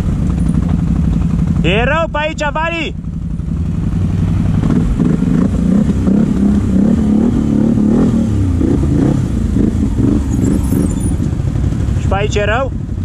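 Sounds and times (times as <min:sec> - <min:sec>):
atv engine revving: 0:00.0 - 0:02.0, 0:03.0 - 0:13.0.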